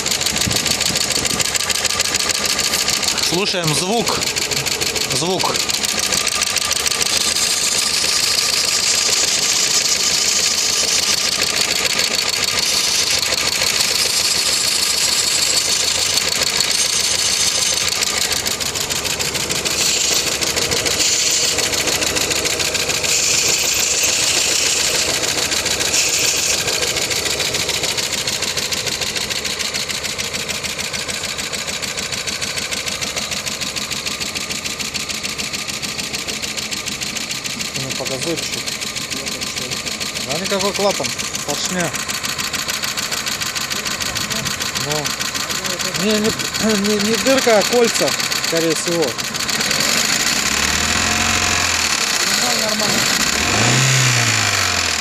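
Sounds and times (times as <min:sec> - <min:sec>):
engine knocking: 0:00.0 - 0:55.0.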